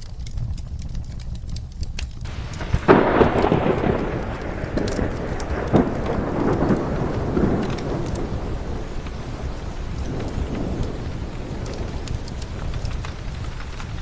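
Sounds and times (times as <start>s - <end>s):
steady rain: 0.0s - 14.0s
thunder rumbling: 0.0s - 14.0s
wood fire crackling: 0.0s - 14.0s.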